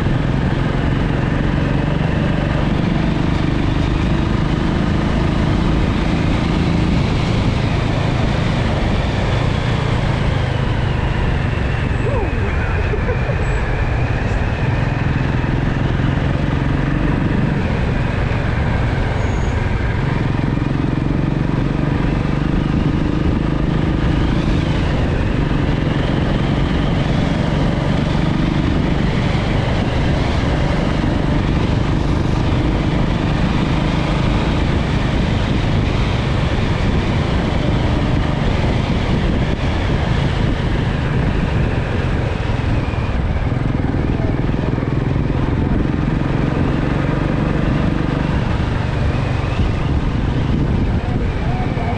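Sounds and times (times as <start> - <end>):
motorcycle engine hum: 0.0 - 51.9
road and air noise: 0.0 - 51.9.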